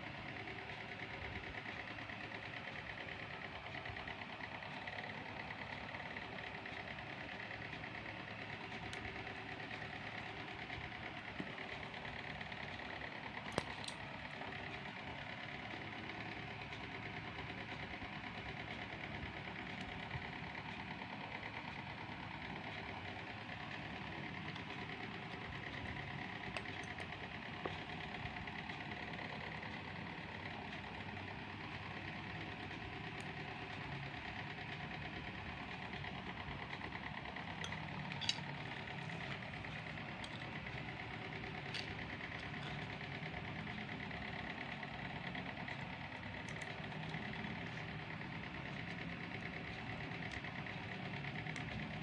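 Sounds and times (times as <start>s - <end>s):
motor humming: 0.0s - 21.0s, 21.6s - 52.0s.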